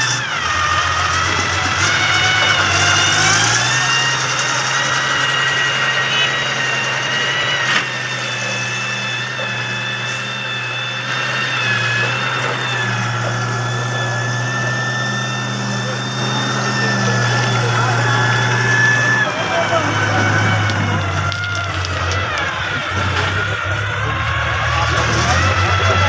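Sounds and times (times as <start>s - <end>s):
engine idling with whine: 0.0s - 26.0s.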